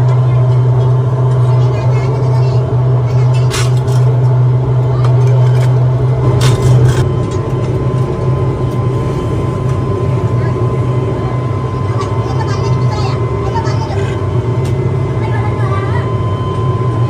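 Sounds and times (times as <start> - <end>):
foundry machinery droning: 0.0 - 17.0.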